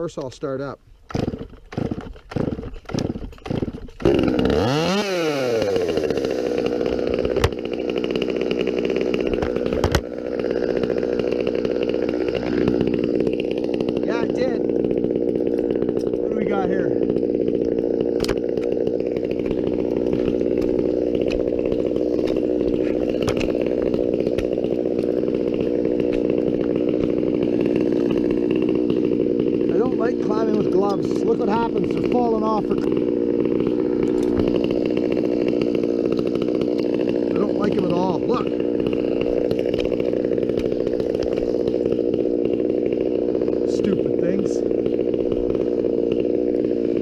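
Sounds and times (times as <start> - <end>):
chainsaw engine running: 0.0 - 47.0
chainsaw starter cord yanks: 0.0 - 47.0.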